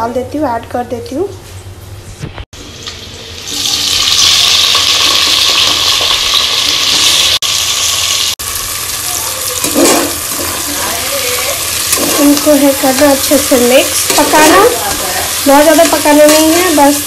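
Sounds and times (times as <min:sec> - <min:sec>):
vegetables sizzling in hot oil: 0:02.6 - 0:17.0.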